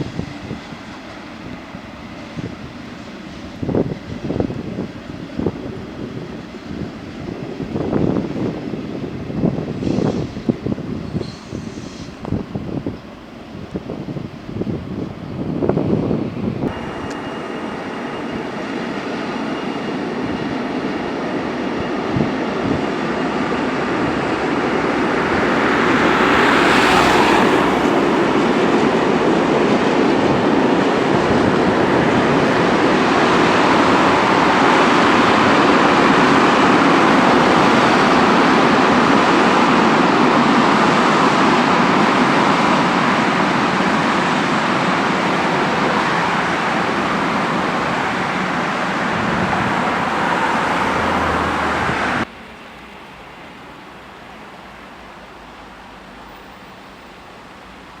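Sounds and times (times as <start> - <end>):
train running on rails: 0.0 - 58.0.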